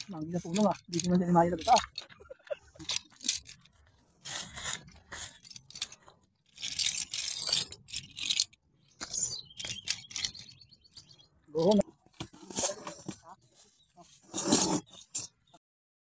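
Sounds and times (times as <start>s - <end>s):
rustling and scraping of nets: 0.0s - 15.5s.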